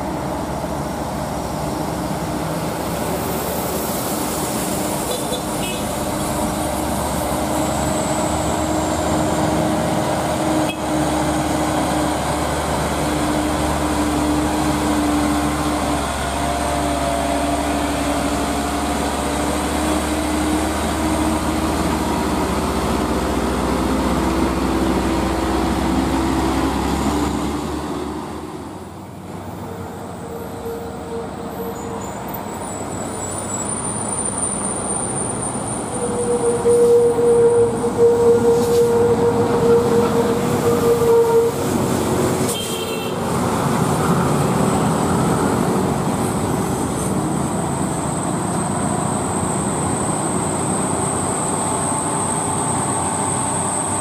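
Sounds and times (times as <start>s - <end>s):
diesel truck engine pulling uphill: 0.0s - 42.6s, 43.2s - 54.0s.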